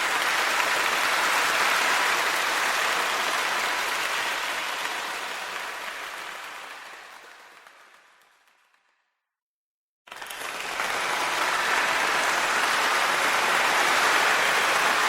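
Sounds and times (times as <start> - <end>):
crowd applauding: 0.0 - 9.0, 10.1 - 15.0.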